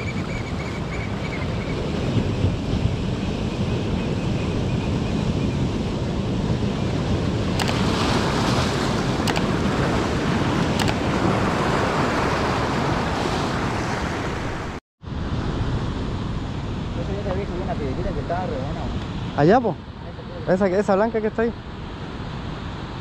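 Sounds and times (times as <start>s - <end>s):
ocean surf on beach: 0.0s - 23.0s
wind rumbling on microphone: 0.0s - 23.0s.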